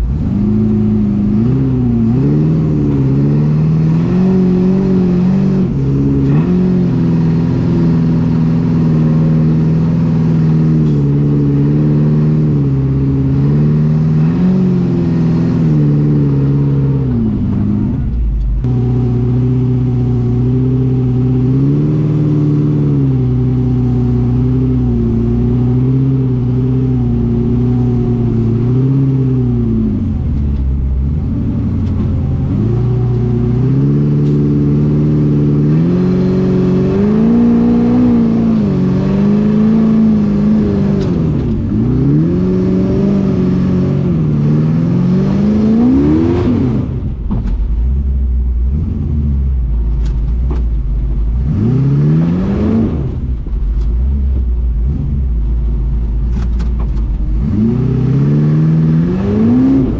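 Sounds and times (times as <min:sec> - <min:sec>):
off-road buggy engine revving: 0:00.0 - 0:59.9.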